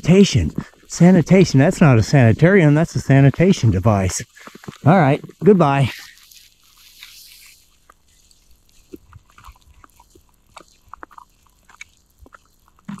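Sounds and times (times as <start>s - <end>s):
footsteps crunching in snow: 2.6s - 13.0s.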